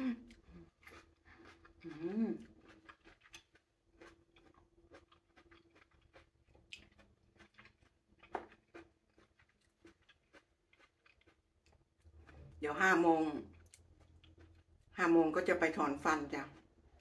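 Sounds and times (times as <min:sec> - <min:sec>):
person chewing fruit: 0:00.0 - 0:17.0.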